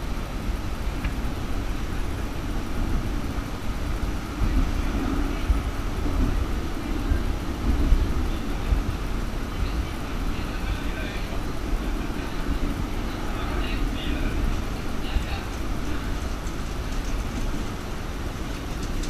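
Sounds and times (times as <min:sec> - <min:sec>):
tram wheels rumbling on rail: 0:00.0 - 0:19.0.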